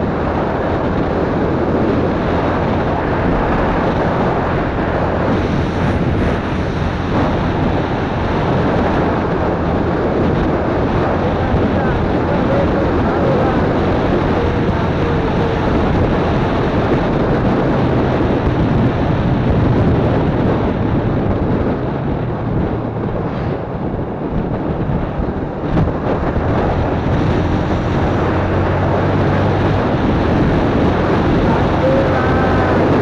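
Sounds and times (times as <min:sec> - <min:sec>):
motorcycle engine running: 0:00.0 - 0:33.0
wind rush on microphone: 0:00.0 - 0:33.0.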